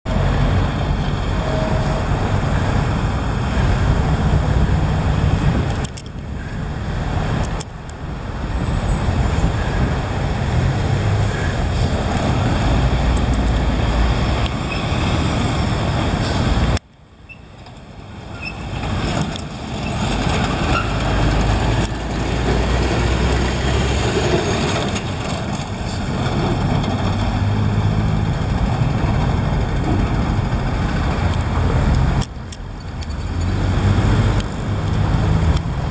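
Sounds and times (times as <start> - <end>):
passing traffic: 0.0 - 35.9
diesel truck engine rumble: 0.1 - 35.9.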